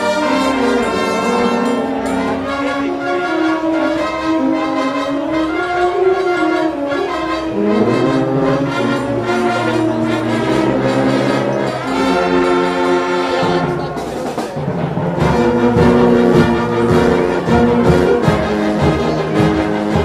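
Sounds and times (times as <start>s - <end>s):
brass band playing chords: 0.0s - 20.0s.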